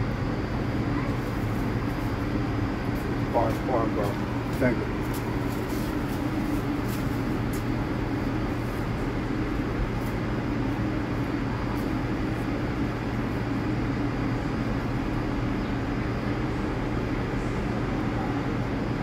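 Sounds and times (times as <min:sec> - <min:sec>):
subway train humming: 0:00.0 - 0:19.0.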